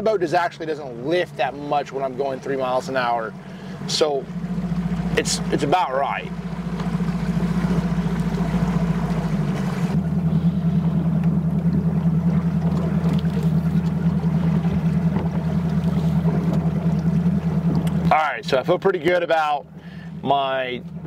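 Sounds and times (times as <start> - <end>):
boat motor droning hum: 0.0 - 21.0.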